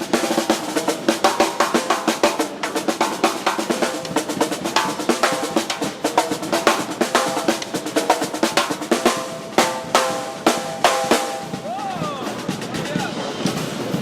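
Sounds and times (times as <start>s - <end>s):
fast drum kit playing: 0.0s - 14.0s.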